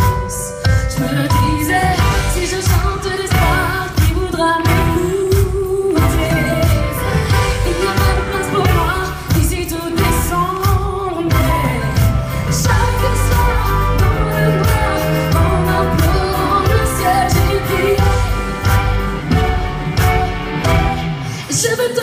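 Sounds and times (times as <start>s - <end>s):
woman singing: 0.0s - 19.0s, 21.3s - 22.0s
live band with drums and bass: 0.0s - 22.0s.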